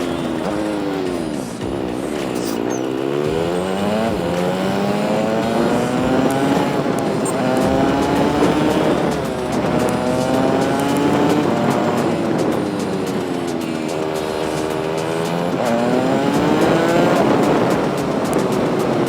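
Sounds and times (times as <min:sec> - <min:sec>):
motorcycle engine accelerating: 0:00.0 - 0:19.0
wind and road noise: 0:00.0 - 0:19.0.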